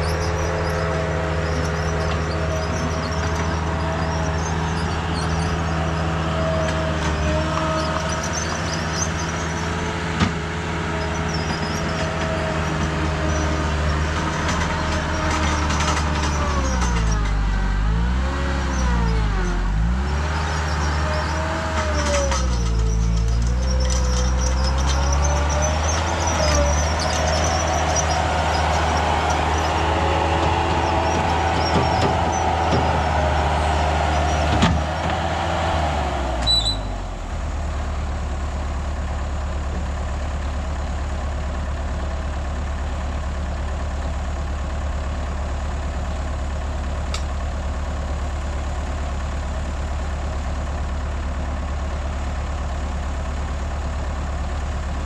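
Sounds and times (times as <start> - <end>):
heavy machine engine: 0.0 - 55.0.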